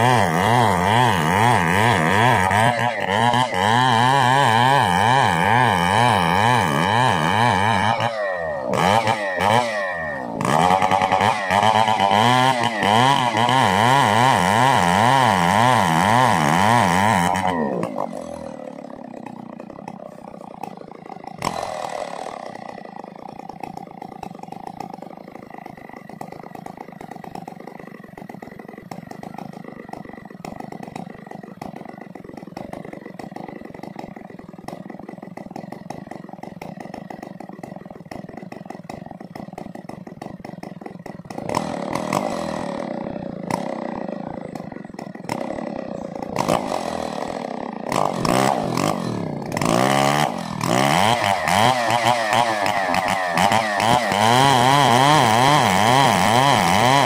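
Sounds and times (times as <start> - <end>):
chainsaw engine revving: 0.0 - 57.0
chainsaw idling: 0.0 - 57.0.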